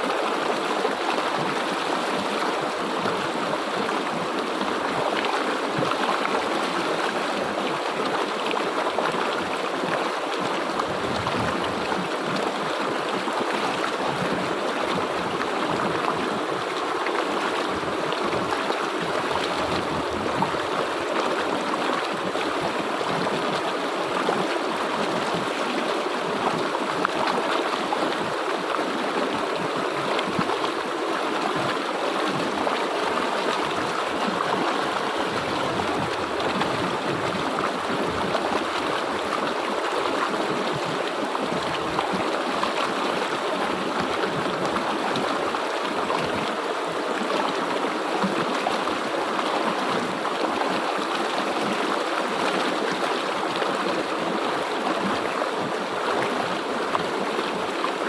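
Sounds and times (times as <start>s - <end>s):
water rushing over stones: 0.0s - 58.0s.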